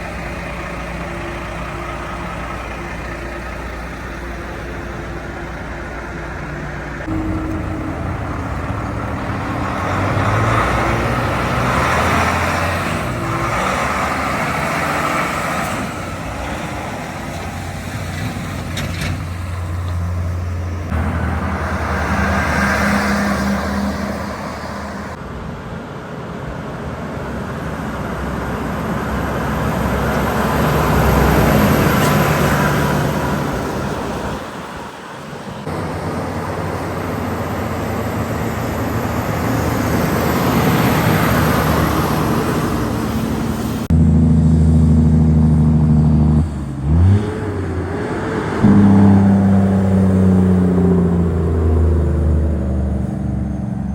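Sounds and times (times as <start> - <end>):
diesel trucks passing: 0.0 - 53.9
truck diesel engine running close: 0.0 - 53.9.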